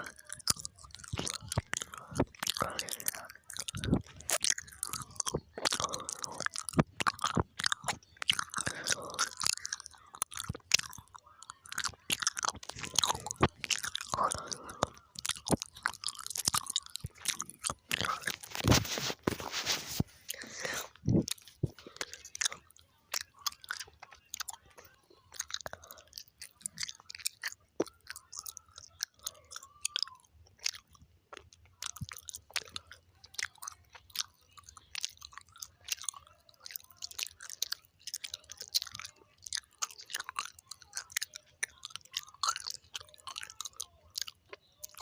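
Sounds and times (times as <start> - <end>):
gum chewing: 0.0 - 45.0.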